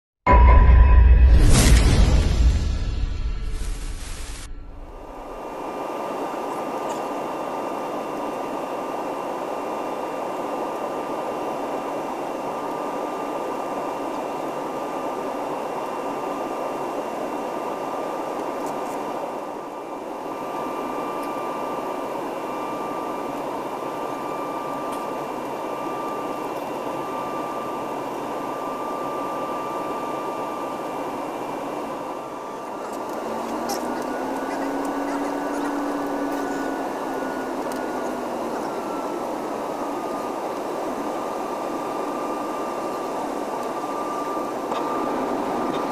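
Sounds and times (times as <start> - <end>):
airliner cabin noise: 1.4 - 45.9.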